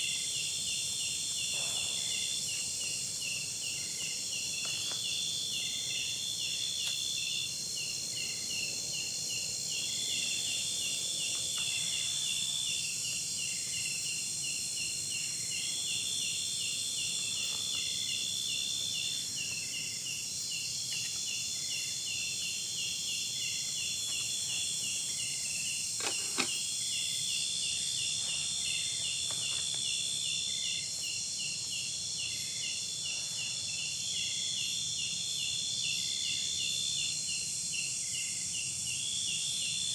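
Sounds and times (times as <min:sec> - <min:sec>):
insect trills and chirps: 0:00.0 - 0:39.9.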